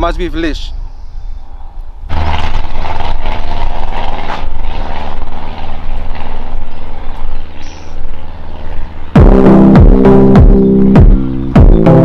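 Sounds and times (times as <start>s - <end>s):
vehicle engine running: 2.1s - 12.0s.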